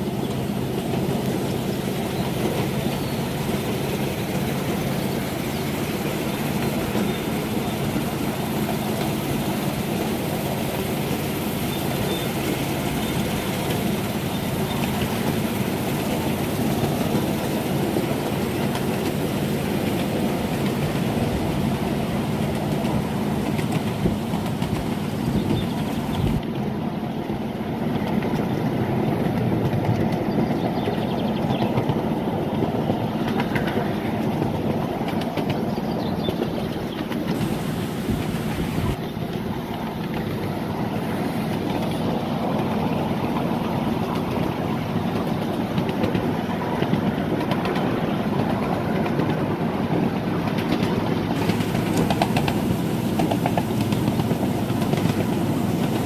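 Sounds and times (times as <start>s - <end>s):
small locomotive hum: 0.0s - 56.0s
wheels rumbling on rail: 0.0s - 56.0s.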